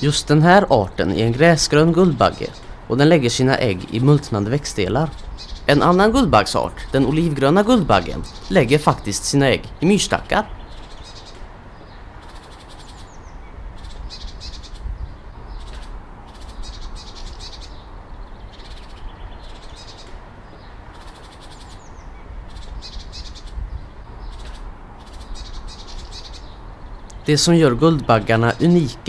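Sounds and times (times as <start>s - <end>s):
bird trilling: 0.0s - 29.0s
low outdoor rumble: 0.0s - 29.0s.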